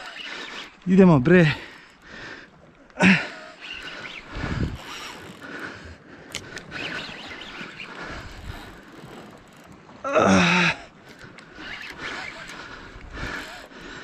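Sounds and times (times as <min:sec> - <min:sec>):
sea waves: 0:00.0 - 0:14.0
wind: 0:00.0 - 0:14.0.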